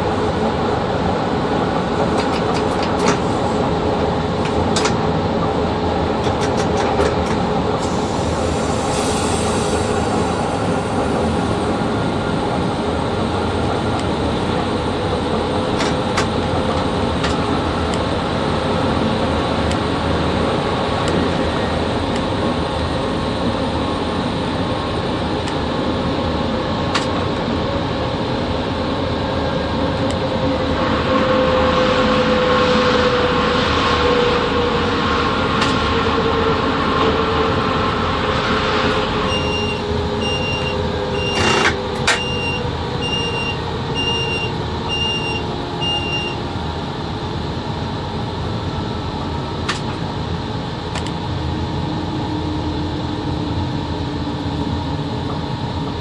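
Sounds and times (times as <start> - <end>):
locomotive cab rumble: 0.0 - 30.7, 34.0 - 56.0
constant whine: 0.0 - 56.0.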